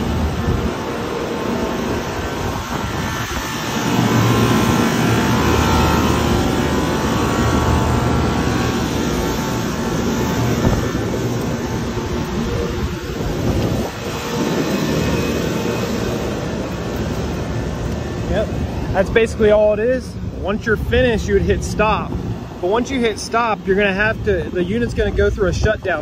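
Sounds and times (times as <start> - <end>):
drone of fan air: 0.0 - 26.0
low hum: 0.0 - 26.0.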